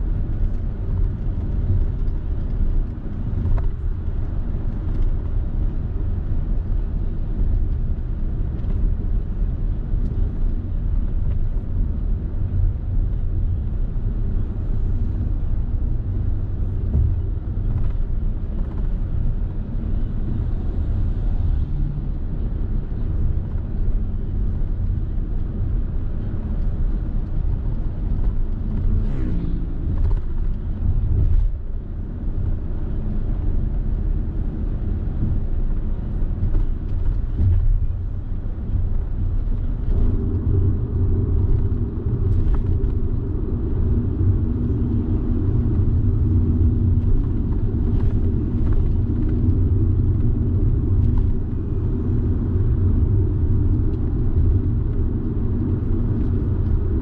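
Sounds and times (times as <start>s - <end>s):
car engine rumble: 0.0s - 57.0s
tyre road noise: 0.0s - 57.0s.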